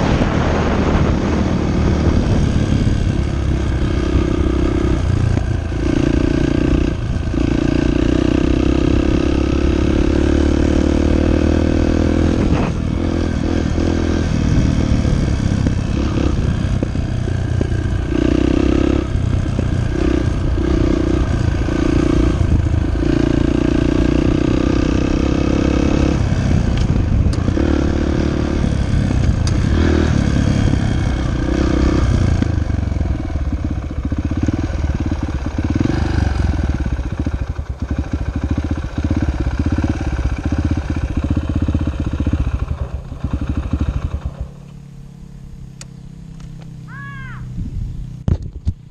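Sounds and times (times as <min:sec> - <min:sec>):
dirt bike engine revving: 0:00.0 - 0:45.6.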